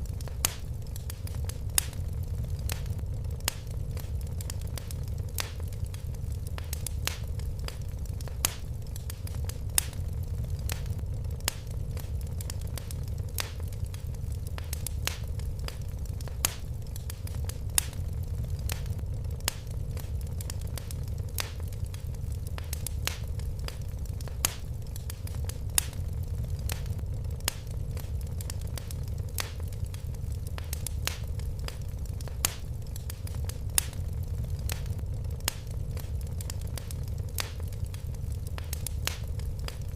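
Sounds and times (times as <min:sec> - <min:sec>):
wood fire crackling in a fireplace: 0:00.0 - 0:39.9.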